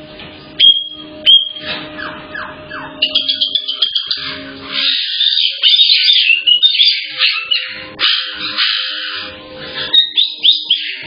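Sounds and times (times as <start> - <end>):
parrots screeching and whistling: 0.6 - 11.0.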